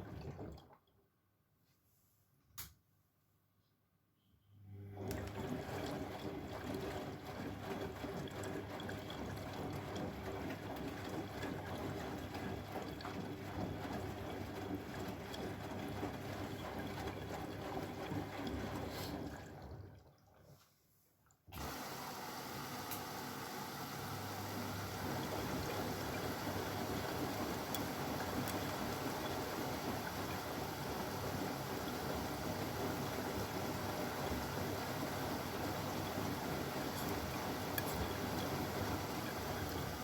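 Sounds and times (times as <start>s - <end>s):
washing machine water rushing: 0.0s - 0.8s, 4.8s - 20.5s, 21.5s - 40.0s.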